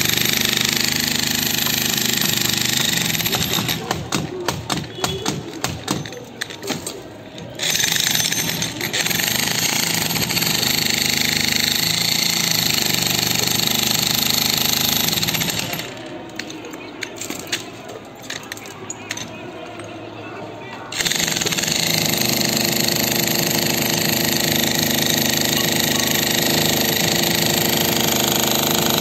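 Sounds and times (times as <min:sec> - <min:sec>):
demolition hammer breaking concrete: 0:00.0 - 0:16.5, 0:21.0 - 0:29.0.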